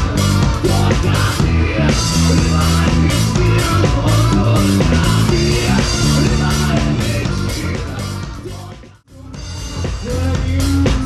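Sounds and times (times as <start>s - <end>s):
drum kit: 0.0s - 11.0s
live rock band: 0.0s - 11.0s.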